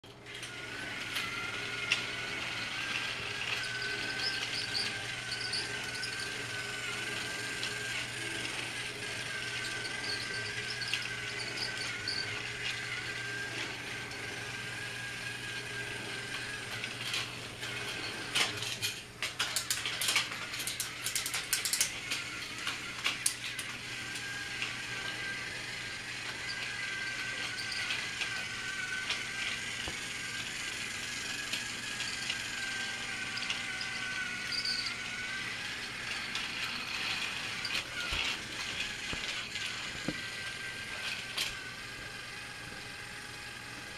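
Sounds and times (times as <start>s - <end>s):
toy train motor whine: 0.0s - 43.9s.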